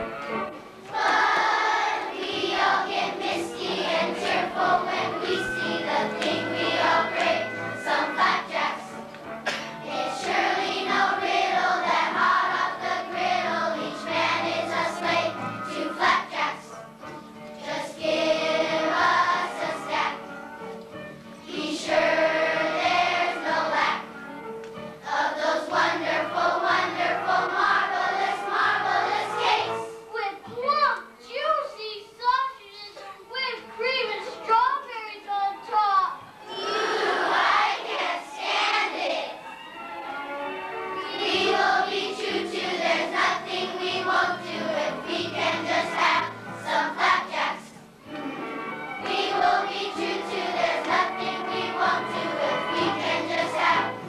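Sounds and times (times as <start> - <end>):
children's choir singing: 0.0 - 20.7, 21.4 - 30.2, 36.3 - 40.1, 40.7 - 54.0
instrumental accompaniment: 0.0 - 31.4, 36.2 - 54.0.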